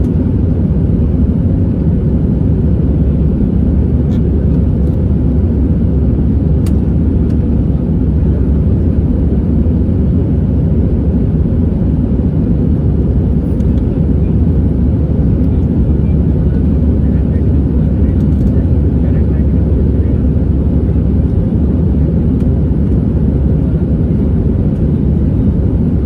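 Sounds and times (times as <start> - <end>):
jet engine drone and rushing air: 0.0 - 26.0.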